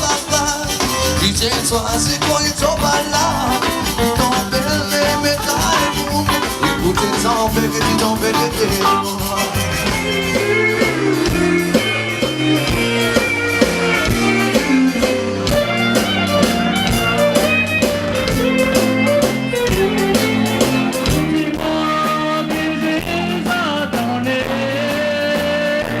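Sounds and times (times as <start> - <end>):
live rock band playing: 0.0 - 26.0
sustained lead line: 0.0 - 26.0.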